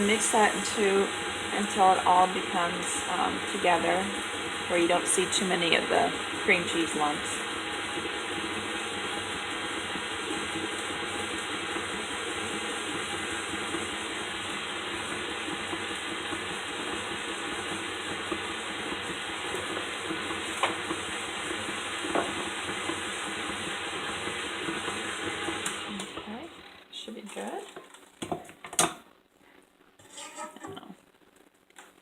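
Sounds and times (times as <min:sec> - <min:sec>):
electric mixer running: 0:00.0 - 0:26.8.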